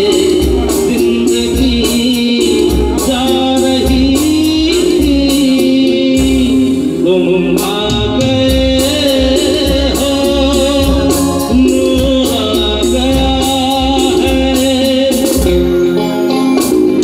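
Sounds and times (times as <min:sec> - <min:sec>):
live band playing a song: 0:00.0 - 0:17.0
man singing: 0:00.0 - 0:17.0.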